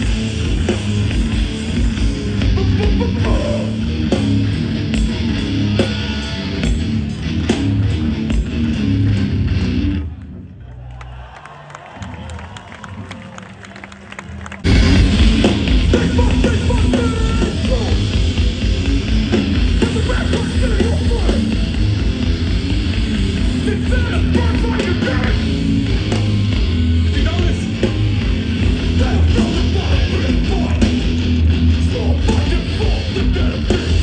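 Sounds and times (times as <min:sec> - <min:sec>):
punk band playing live: 0:00.0 - 0:10.4, 0:14.1 - 0:34.0.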